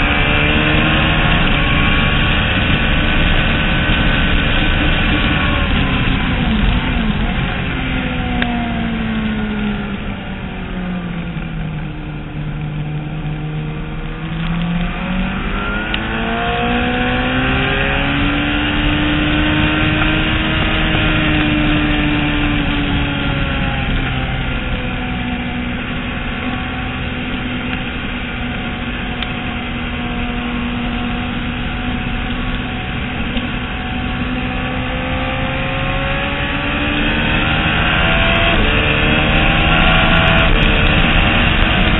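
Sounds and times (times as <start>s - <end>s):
motorcycle engine revving: 0.0s - 41.9s
steady rush of noise: 0.0s - 41.9s.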